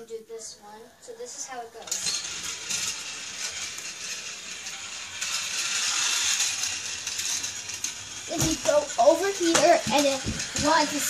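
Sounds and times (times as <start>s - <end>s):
toy train wheels hissing on track: 1.0s - 11.0s.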